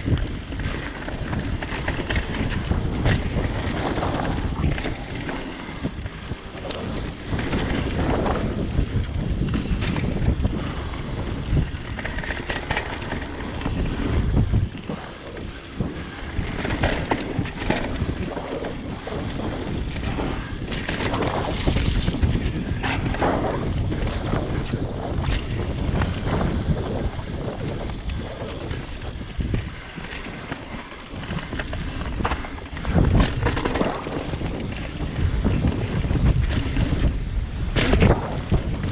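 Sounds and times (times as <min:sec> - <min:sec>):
bike clattering over rough ground: 0:00.0 - 0:38.9
bike tyres rolling on dirt: 0:00.0 - 0:38.9
wind buffeting microphone: 0:00.0 - 0:38.9.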